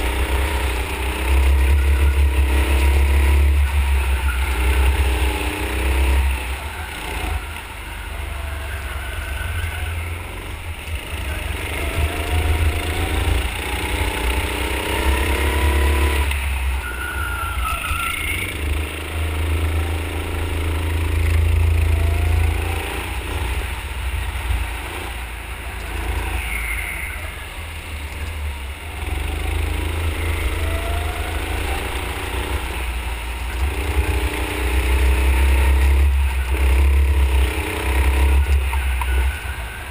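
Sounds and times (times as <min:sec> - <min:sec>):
go-kart motor revving: 0:00.0 - 0:39.9.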